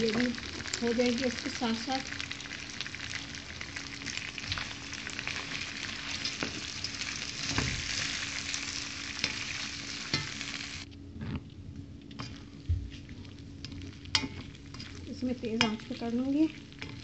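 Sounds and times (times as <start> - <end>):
food sizzling in hot oil: 0.0 - 10.9, 12.4 - 17.0.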